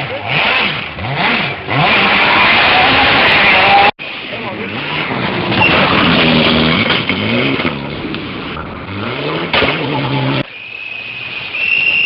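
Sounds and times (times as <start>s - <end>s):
rally car engine revving: 0.0s - 10.5s
another car engine: 0.0s - 12.0s.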